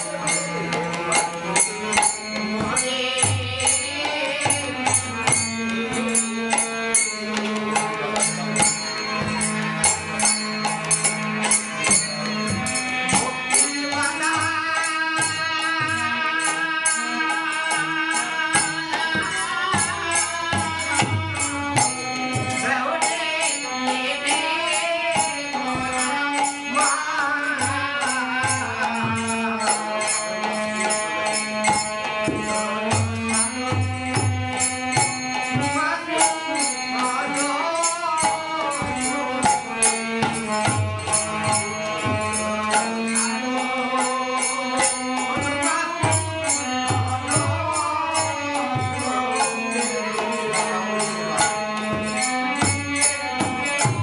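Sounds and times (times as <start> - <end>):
harmonium melody: 0.0 - 54.0.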